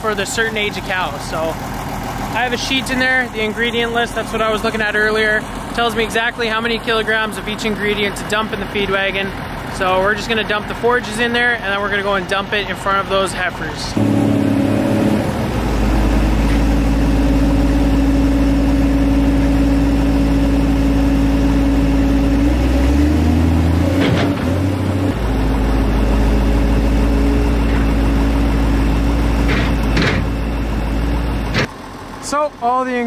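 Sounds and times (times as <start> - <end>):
diesel engines running: 0.0 - 33.0.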